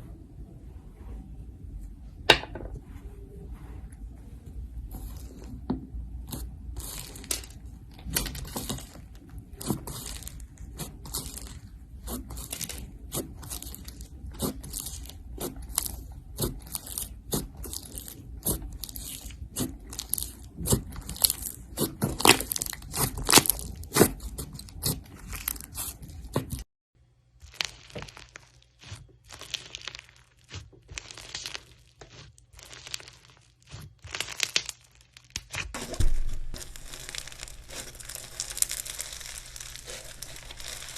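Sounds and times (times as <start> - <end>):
slime crackling and popping: 6.2 - 26.6, 27.4 - 40.9.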